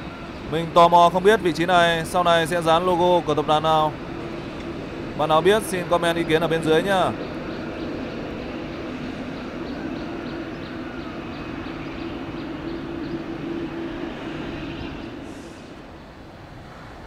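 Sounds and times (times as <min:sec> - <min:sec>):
jet engines humming: 0:00.0 - 0:17.0.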